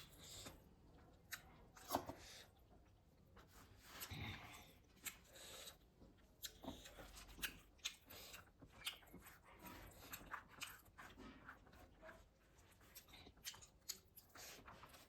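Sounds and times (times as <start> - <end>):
person chewing: 0.0 - 2.2, 3.8 - 15.0.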